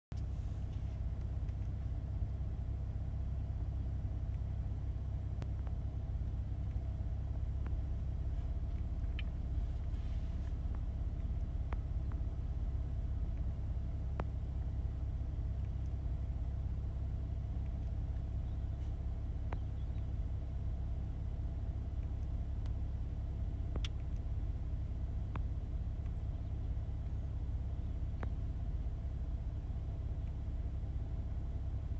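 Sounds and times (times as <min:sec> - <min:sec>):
car engine idling: 0:00.1 - 0:31.9.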